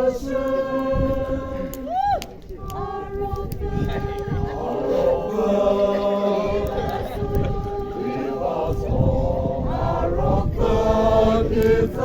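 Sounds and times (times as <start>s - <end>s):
group singing in harmony: 0.0s - 2.0s, 2.6s - 12.0s.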